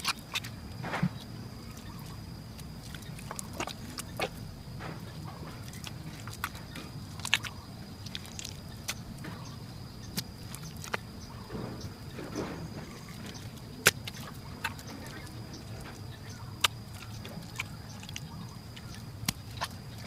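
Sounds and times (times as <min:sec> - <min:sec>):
hands slapping wet mud: 0:00.0 - 0:09.2, 0:12.8 - 0:20.0.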